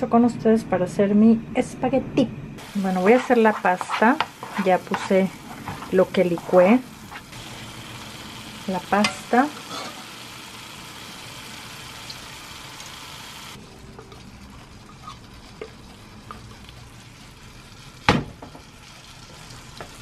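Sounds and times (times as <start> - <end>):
sauce sizzling in frying pan: 2.6 - 20.0.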